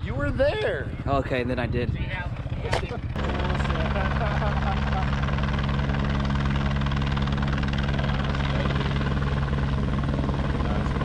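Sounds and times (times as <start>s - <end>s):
helicopter rotor beating: 0.2s - 11.0s
low hum: 2.1s - 11.0s.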